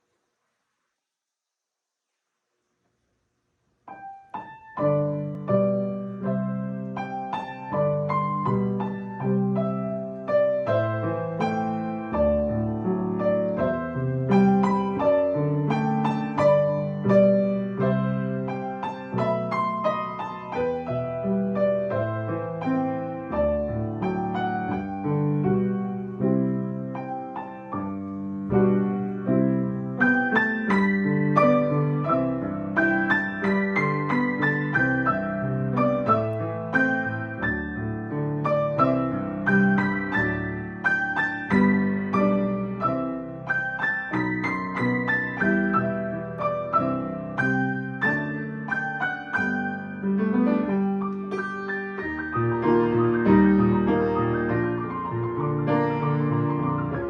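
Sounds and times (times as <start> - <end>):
piano playing chords: 3.9 - 57.0.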